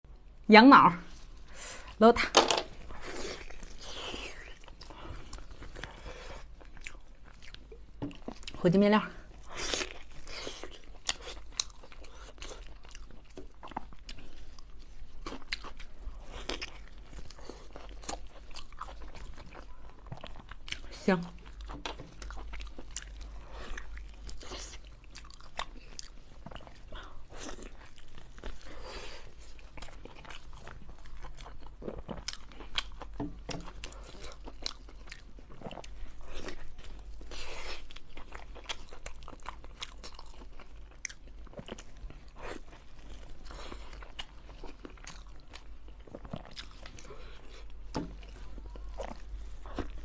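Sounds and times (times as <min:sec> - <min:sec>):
seafood crunching while chewed: 0:02.4 - 0:08.6, 0:09.2 - 0:50.0.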